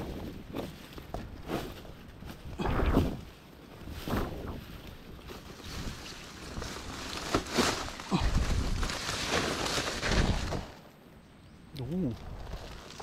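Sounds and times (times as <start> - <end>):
rustling through undergrowth: 0.0 - 11.3, 12.0 - 13.0.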